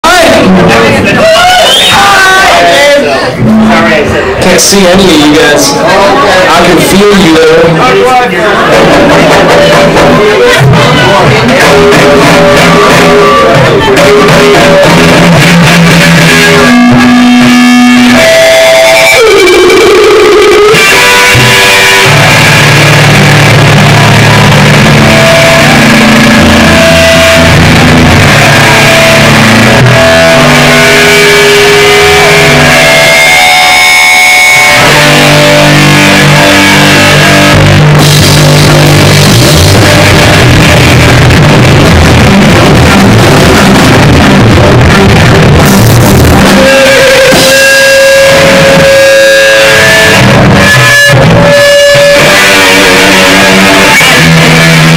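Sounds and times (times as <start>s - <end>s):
drum kit: 0.0s - 5.8s, 6.5s - 54.9s
electric bass: 0.0s - 54.9s
electric guitar: 0.0s - 54.9s.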